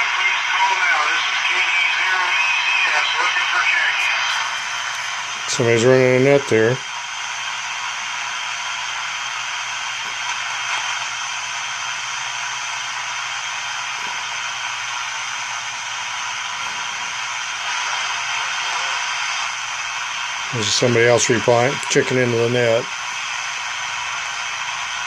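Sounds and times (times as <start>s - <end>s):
radio static and hiss: 0.0s - 25.0s.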